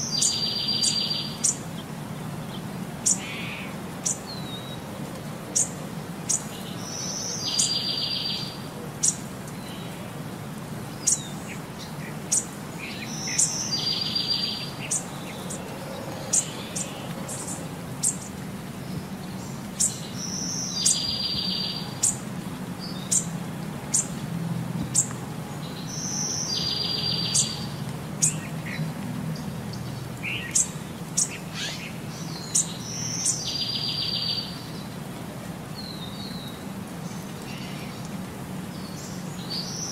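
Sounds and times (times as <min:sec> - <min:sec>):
birds chirping: 0:00.0 - 0:10.2, 0:10.8 - 0:24.2, 0:24.8 - 0:35.0.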